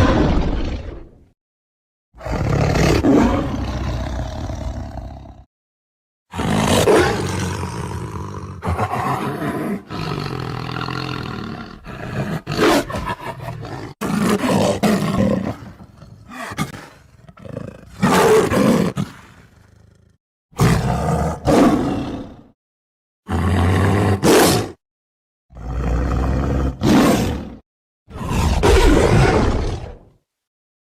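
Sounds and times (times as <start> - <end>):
tiger roaring and growling: 0.0 - 1.2, 2.2 - 5.5, 6.3 - 22.6, 23.3 - 24.8, 25.5 - 30.2.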